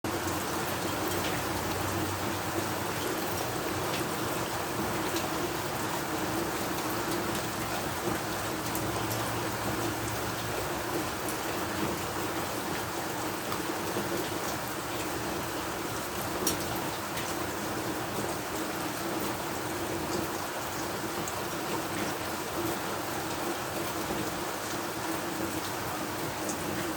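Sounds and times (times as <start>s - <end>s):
heavy rain falling: 0.1s - 26.9s.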